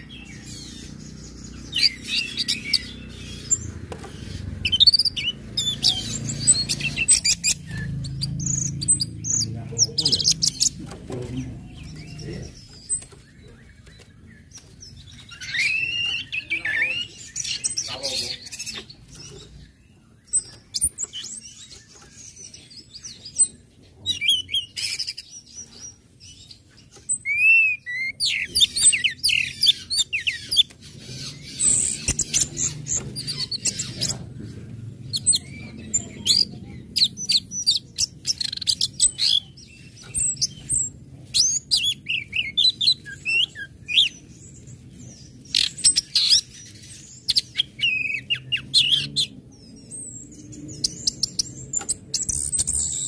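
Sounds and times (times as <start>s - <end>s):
bird chirping and trilling: 0.0s - 53.0s.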